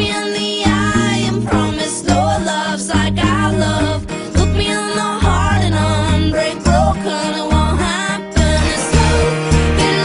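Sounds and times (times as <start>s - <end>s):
pop music with heavy bass: 0.0s - 10.0s.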